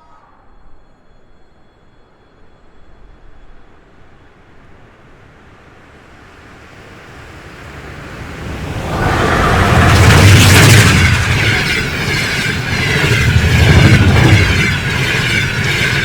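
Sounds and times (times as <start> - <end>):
train approaching with rushing rumble: 0.1 - 16.0.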